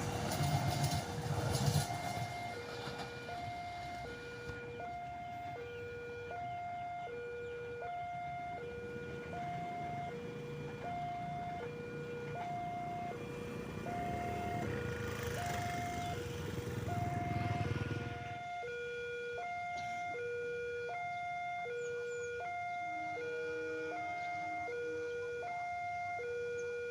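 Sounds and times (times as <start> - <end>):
two-tone level crossing alarm: 0.0 - 26.9.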